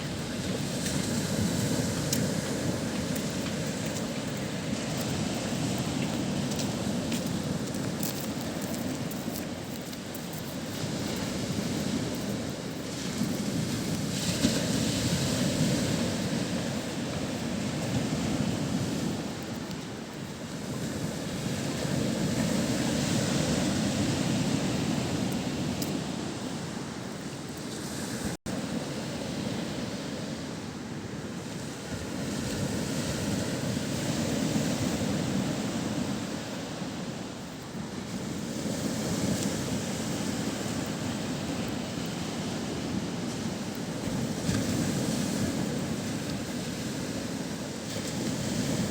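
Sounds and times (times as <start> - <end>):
surf washing onto shore: 0.0 - 48.9.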